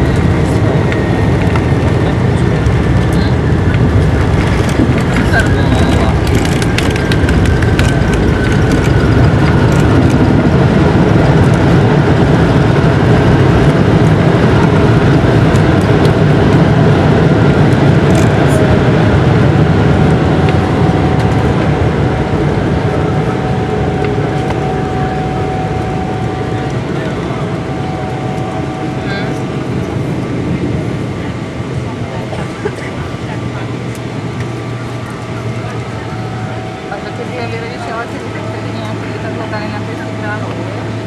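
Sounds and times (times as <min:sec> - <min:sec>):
airplane cabin roar: 0:00.0 - 0:41.0
faint steady whine: 0:00.0 - 0:41.0.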